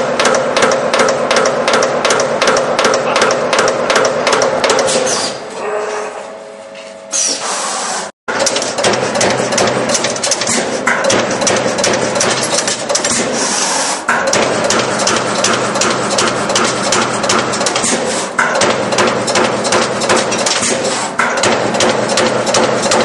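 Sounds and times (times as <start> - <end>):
punch press punching sheet metal: 0.0 - 5.4, 8.3 - 23.0.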